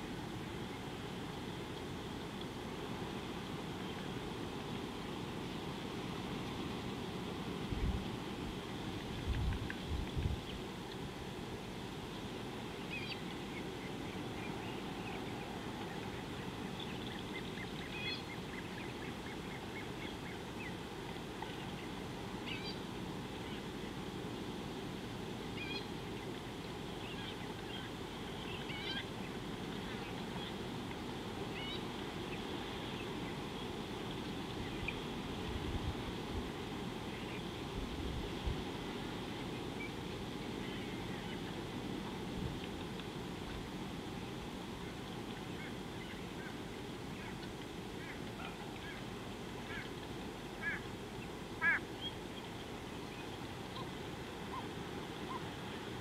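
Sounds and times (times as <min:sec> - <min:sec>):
wind hiss: 0:00.0 - 0:56.0.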